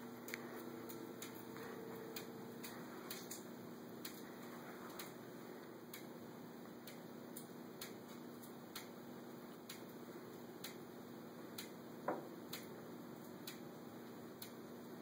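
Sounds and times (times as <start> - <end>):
ceiling fan hum: 0.0 - 15.0
fan ticking: 0.0 - 15.0.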